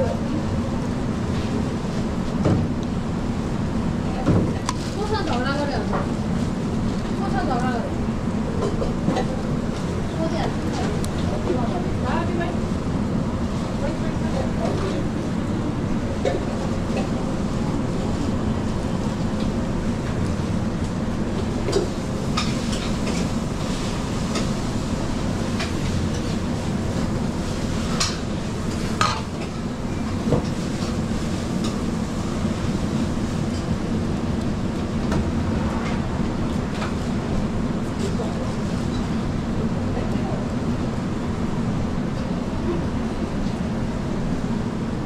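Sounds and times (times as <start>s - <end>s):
low rumble of kitchen machinery: 0.0s - 45.0s.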